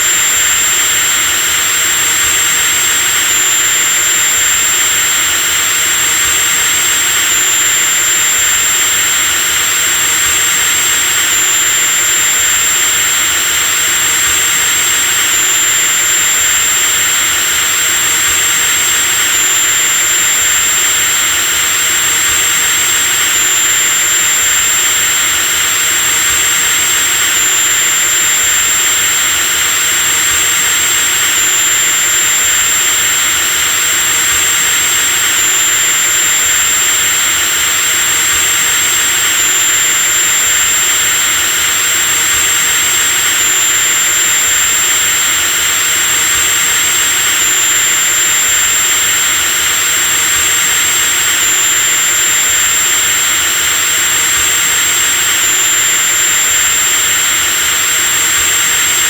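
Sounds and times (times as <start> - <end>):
electric drill whining: 0.0 - 59.0.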